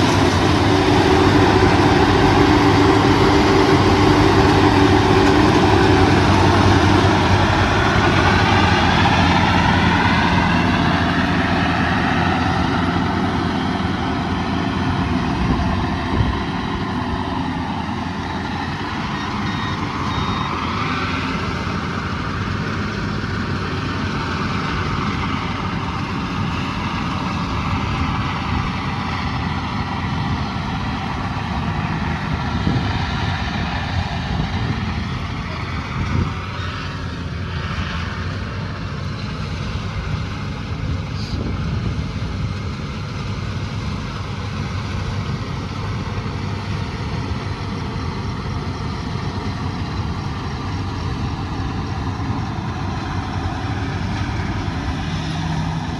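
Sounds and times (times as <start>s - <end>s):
harvester diesel engine running: 0.0s - 55.9s.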